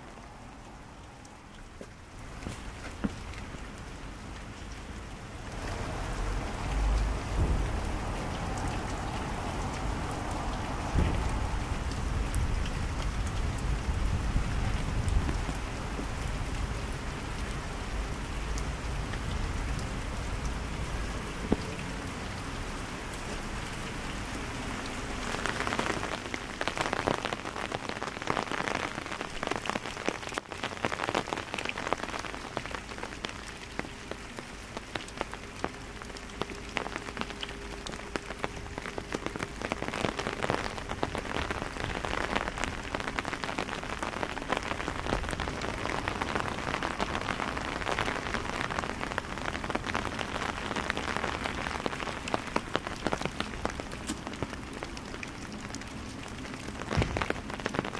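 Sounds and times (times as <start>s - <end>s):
rain pattering on stone: 0.0s - 57.9s.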